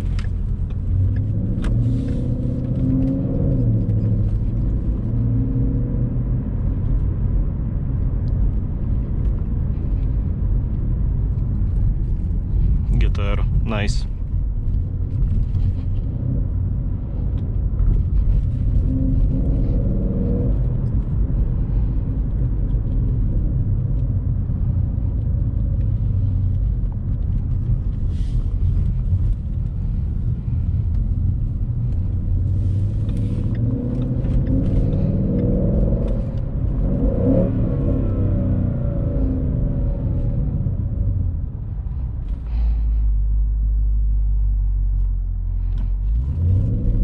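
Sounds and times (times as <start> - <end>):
car engine rumble inside cabin: 0.0 - 47.0.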